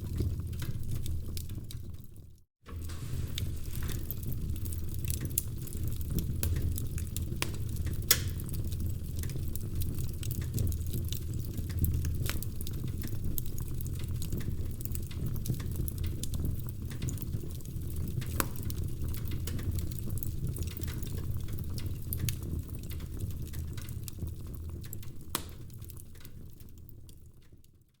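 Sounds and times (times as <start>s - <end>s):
wood fire crackling in fireplace: 0.0s - 28.0s.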